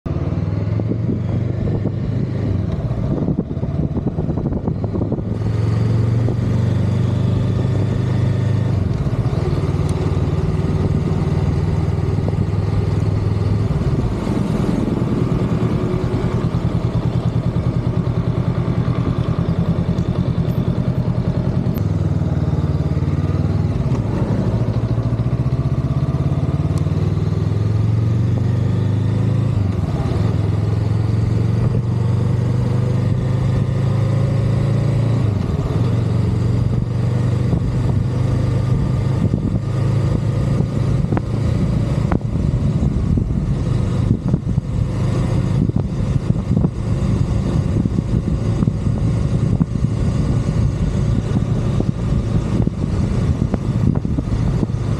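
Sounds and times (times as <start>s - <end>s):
wind: 0.0s - 54.9s
motorcycle engine revving: 0.1s - 54.9s.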